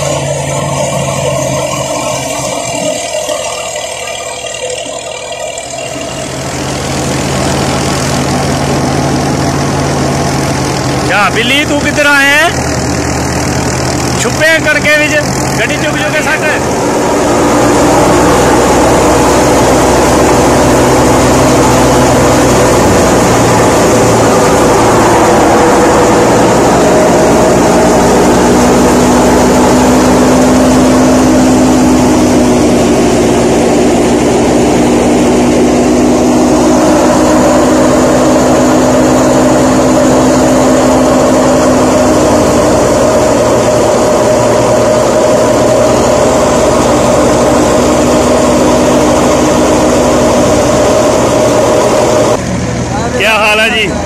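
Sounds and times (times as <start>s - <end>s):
thresher and tractor hum: 0.0s - 54.0s.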